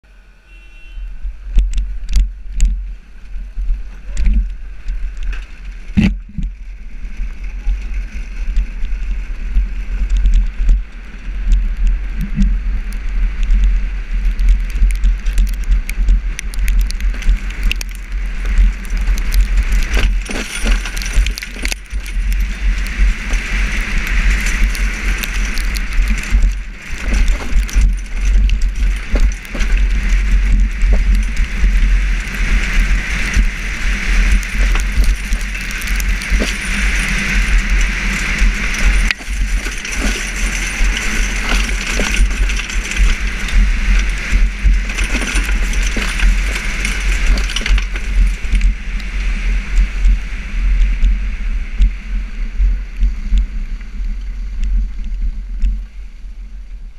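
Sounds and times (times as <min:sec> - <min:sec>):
wind buffeting microphone: 0:01.1 - 0:56.9
rattles and stone clicks: 0:01.5 - 0:49.2
tyres rumbling over gravel: 0:01.5 - 0:51.2.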